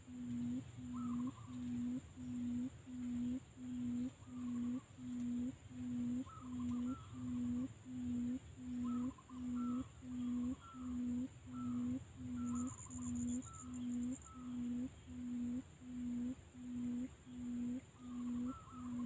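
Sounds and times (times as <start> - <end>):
quail booming hoots: 0.0 - 19.0
higher chirping calls: 0.2 - 19.0.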